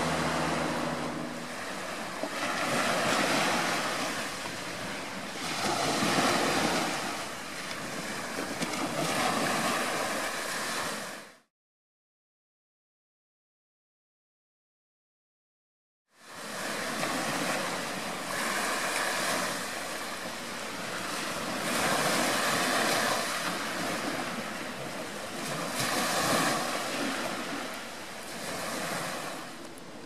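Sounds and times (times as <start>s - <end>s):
waves washing up a pebble beach: 0.0s - 11.3s, 16.2s - 29.6s.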